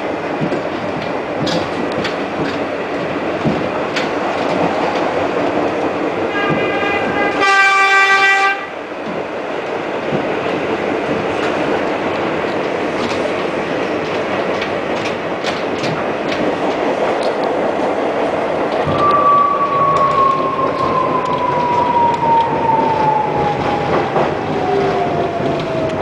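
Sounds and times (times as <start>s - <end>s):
subway wheels clicking over rail joints: 0.0s - 26.0s
falling train whine: 1.1s - 26.0s.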